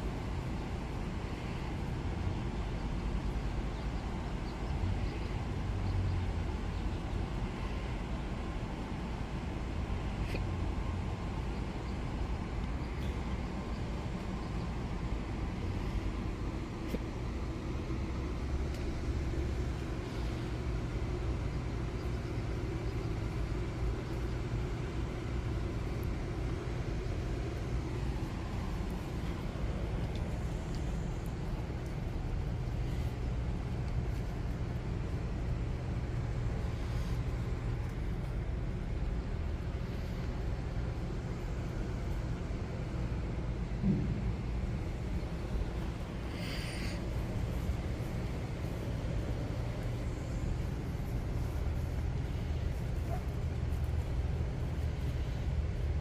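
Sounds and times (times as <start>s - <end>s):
low outdoor rumble: 0.0s - 56.0s
faint hiss: 7.4s - 56.0s.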